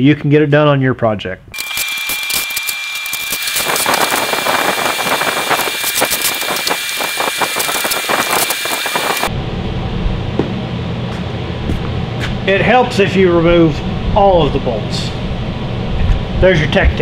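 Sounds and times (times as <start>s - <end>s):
low shop hum: 0.0s - 17.0s
steady high whine: 1.6s - 17.0s.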